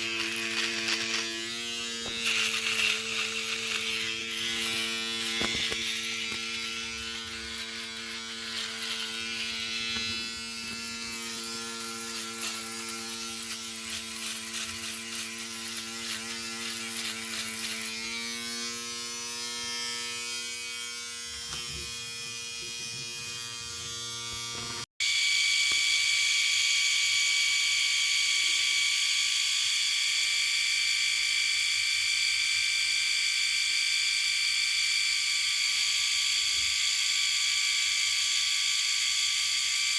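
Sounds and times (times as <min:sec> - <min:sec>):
electric shaver buzzing: 0:00.0 - 0:39.9
higher-pitched shaver buzz: 0:00.0 - 0:39.9.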